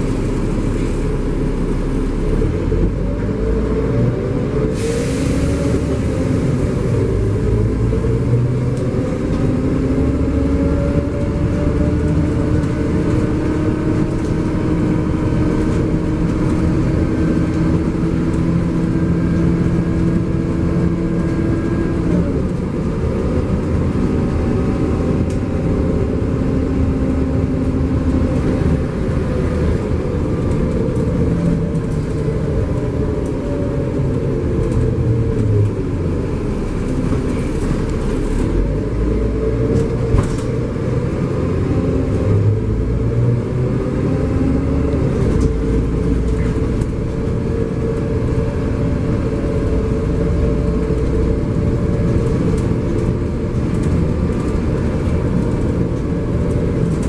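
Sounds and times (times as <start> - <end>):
bus diesel engine: 0.0 - 57.0
road rumble: 0.0 - 57.0.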